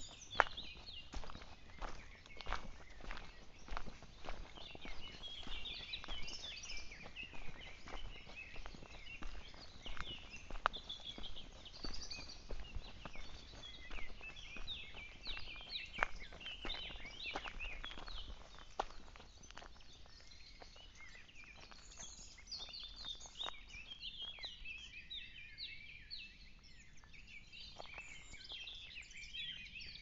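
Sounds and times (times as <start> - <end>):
footsteps on dirt and leaves: 0.0 - 24.6
birds chirping: 0.0 - 30.0.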